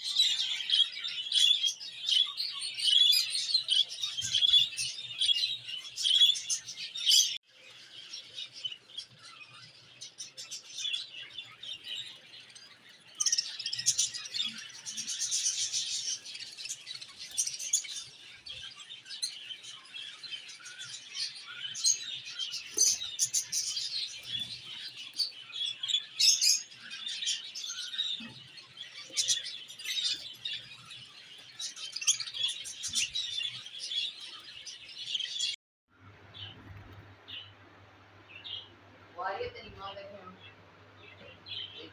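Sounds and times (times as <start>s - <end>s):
budgerigars chattering and chirping: 0.0s - 35.6s.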